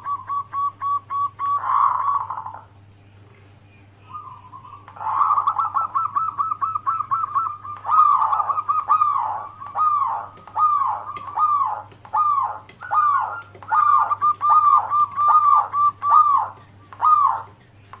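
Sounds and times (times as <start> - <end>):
dove cooing: 0.0 - 2.8, 4.0 - 18.0.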